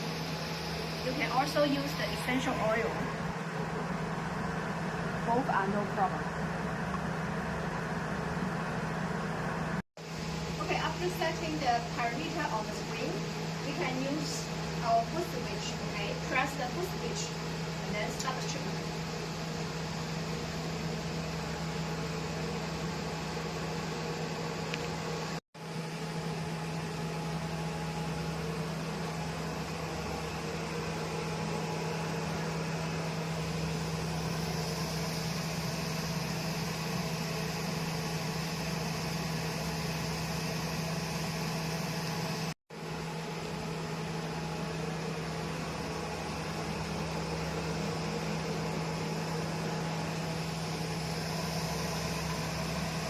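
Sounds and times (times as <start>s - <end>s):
machine hum and fan rush: 0.0s - 53.0s.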